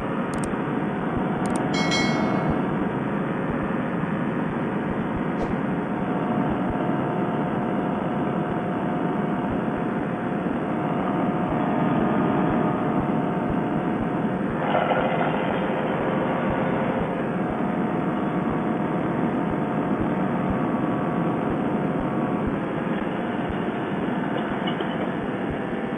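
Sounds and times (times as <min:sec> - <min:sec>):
paramotor engine and propeller drone: 0:02.6 - 0:25.9.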